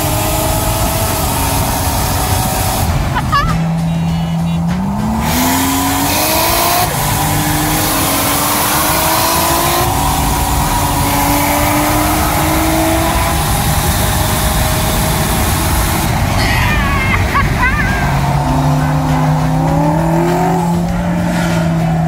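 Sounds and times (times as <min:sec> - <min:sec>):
car engine accelerating hard: 0:00.0 - 0:22.0
road and wind rush: 0:00.0 - 0:22.0.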